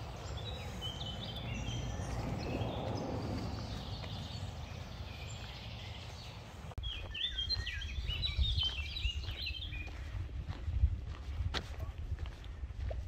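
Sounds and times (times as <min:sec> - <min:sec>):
songbirds chirping: 0:00.0 - 0:10.7.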